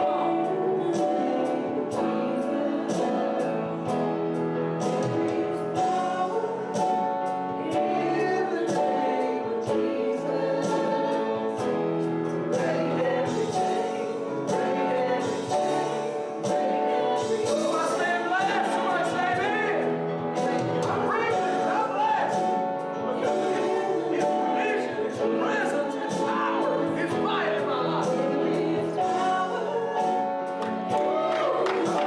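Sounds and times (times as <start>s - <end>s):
congregation singing a hymn: 0.0s - 32.0s
instrumental accompaniment: 0.0s - 32.0s.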